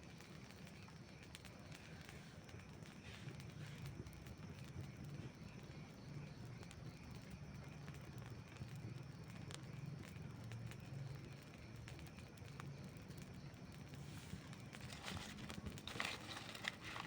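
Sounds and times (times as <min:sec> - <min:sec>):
burning wood crackling and popping: 0:00.0 - 0:17.0
campfire flames fluttering: 0:00.0 - 0:17.0.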